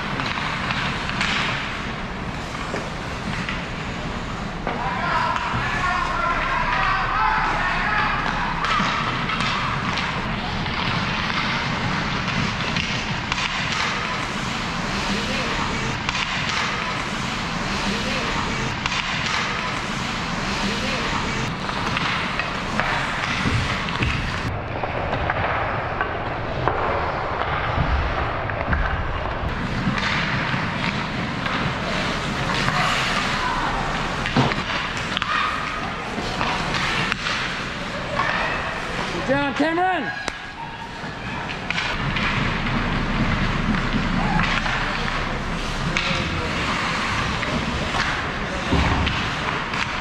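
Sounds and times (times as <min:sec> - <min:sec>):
hockey sticks knocking puck: 0:00.0 - 0:04.0, 0:04.6 - 0:29.0, 0:29.6 - 0:50.0
rink crowd noise: 0:00.0 - 0:50.0
skates scraping ice: 0:00.0 - 0:50.0.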